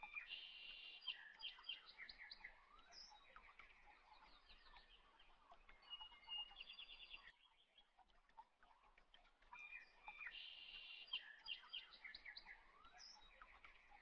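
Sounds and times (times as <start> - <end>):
small birds chirping: 0.0 - 8.4, 9.6 - 14.0.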